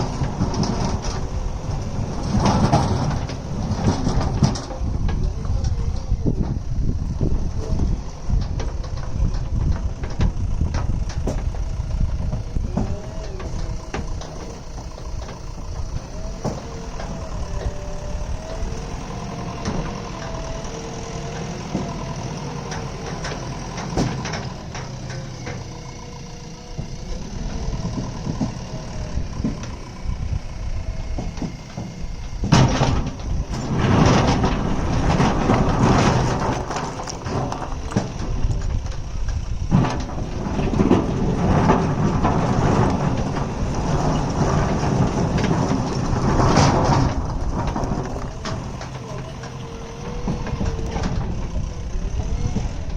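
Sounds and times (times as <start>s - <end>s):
metal knocks and clanks: 0.0s - 25.7s, 26.7s - 30.3s, 31.1s - 52.9s
digger diesel engine running: 0.0s - 52.9s.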